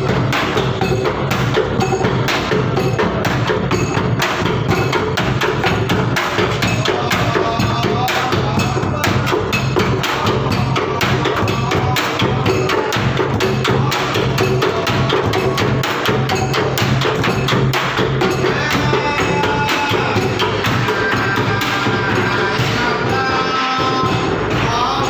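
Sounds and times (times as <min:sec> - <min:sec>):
clattering percussion: 0:00.0 - 0:25.0
large drum beaten rapidly: 0:00.0 - 0:25.0.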